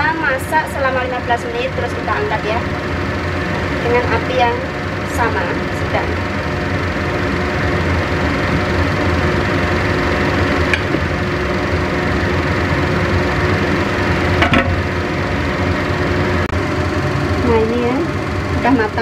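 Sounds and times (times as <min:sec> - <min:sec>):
cooling fan whirring: 0:00.0 - 0:19.0.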